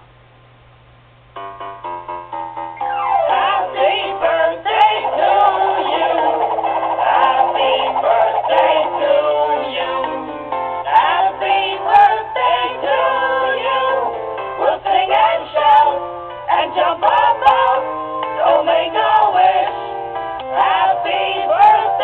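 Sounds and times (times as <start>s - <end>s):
steady low hum: 0.0s - 19.3s
cartoon voices singing: 3.2s - 19.9s, 20.5s - 22.0s.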